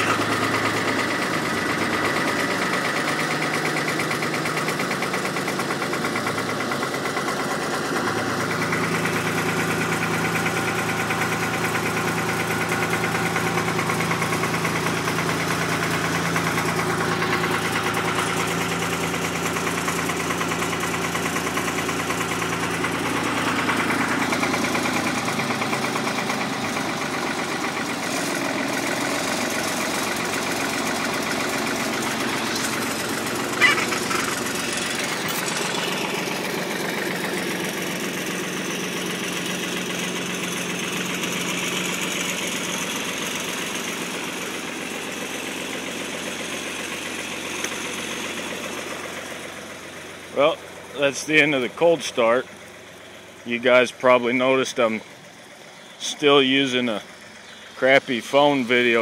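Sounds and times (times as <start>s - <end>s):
diesel tractor engine clattering: 0.0s - 59.0s.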